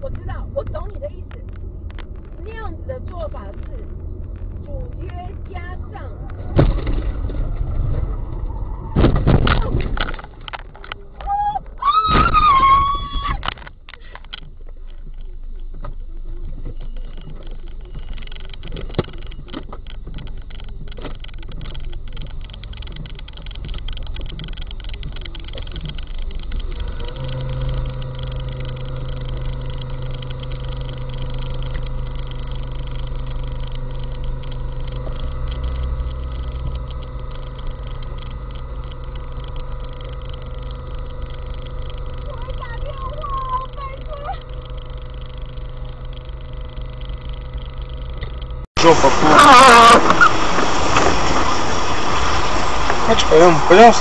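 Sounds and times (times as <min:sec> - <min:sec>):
vehicle engine idling: 0:00.0 - 0:12.0, 0:13.3 - 0:54.0
steady droning tone: 0:00.0 - 0:54.0.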